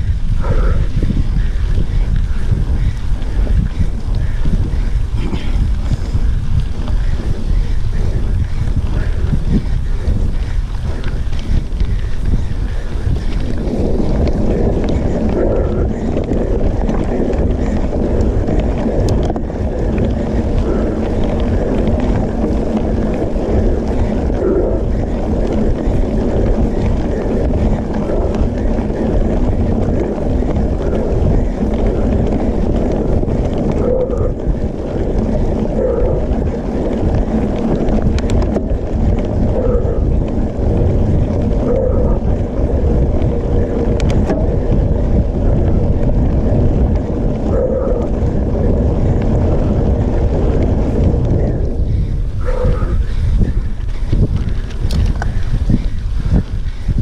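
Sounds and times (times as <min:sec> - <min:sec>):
bike tyres rolling on dirt: 0:00.0 - 0:57.0
wind buffeting microphone: 0:00.0 - 0:57.0.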